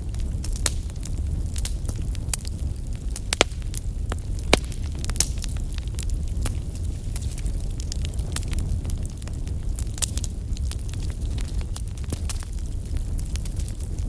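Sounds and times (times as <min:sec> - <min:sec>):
burning logs crackling and popping: 0:00.0 - 0:14.0
fire flames rumbling: 0:00.0 - 0:14.0.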